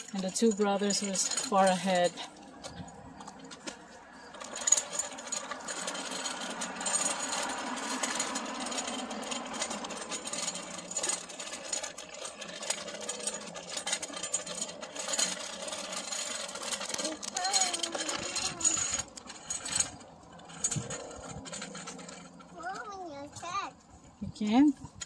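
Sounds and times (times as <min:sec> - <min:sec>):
bike wheels rattling on concrete: 0:00.0 - 0:25.0.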